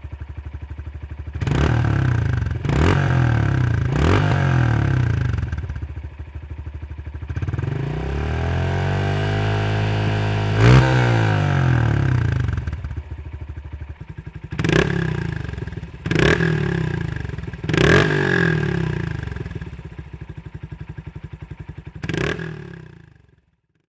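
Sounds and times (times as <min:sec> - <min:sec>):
motorcycle engine revving: 0:00.0 - 0:06.5, 0:07.1 - 0:23.4.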